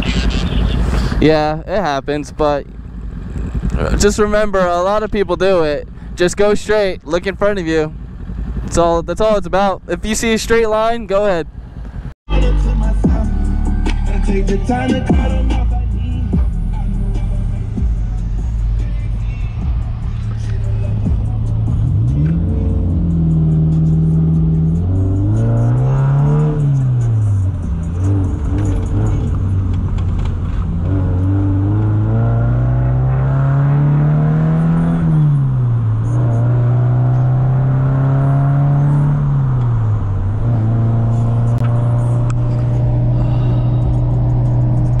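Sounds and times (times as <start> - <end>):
motorcycle engine revving: 0.0 - 1.2, 2.6 - 6.6, 7.2 - 9.4, 11.4 - 45.0.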